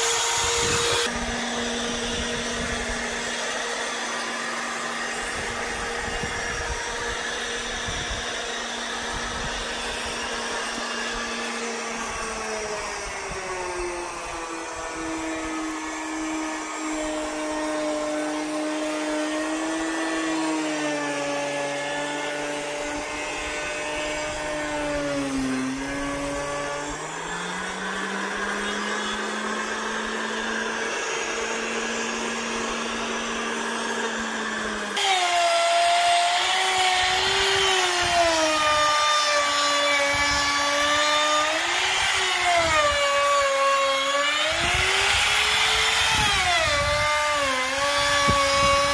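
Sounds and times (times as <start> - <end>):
router motor whine cutting plastic: 0.0 - 48.9.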